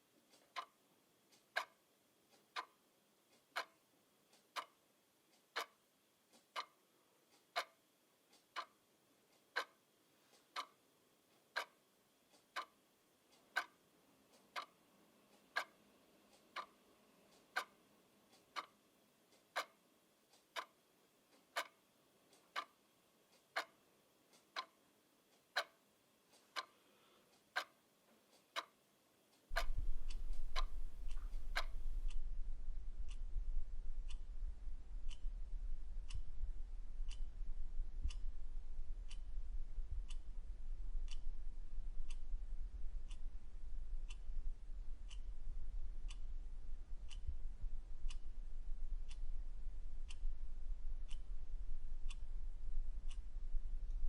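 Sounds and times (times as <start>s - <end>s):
clock ticking: 0.1s - 26.8s, 27.4s - 54.0s.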